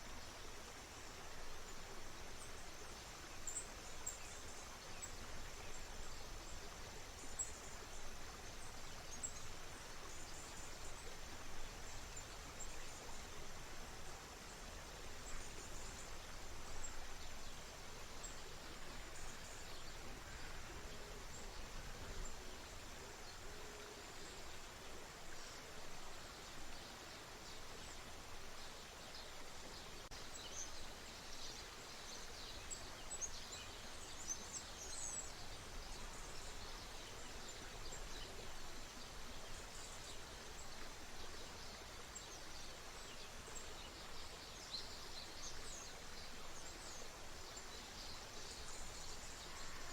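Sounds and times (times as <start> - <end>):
songbirds chirping: 0.0 - 49.9
stream flowing: 0.0 - 49.9.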